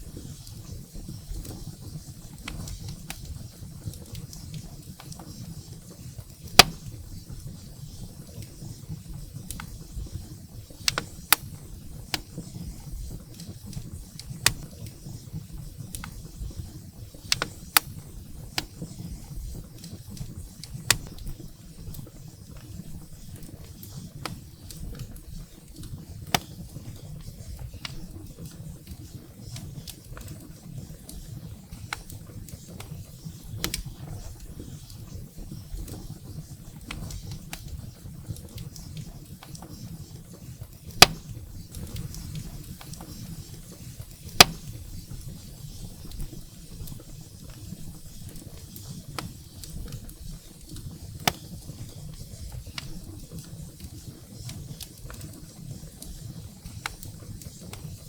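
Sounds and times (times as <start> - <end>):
wood fire rumbling and popping: 0.0 - 58.0.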